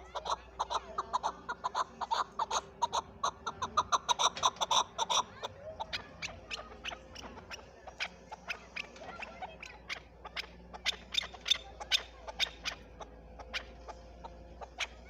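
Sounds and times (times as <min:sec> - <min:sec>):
partridge clucking call: 0:00.0 - 0:15.0.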